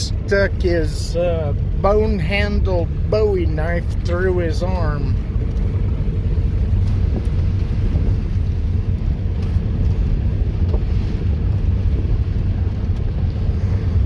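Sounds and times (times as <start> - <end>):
vehicle rumbling on dirt road: 0.0 - 14.0.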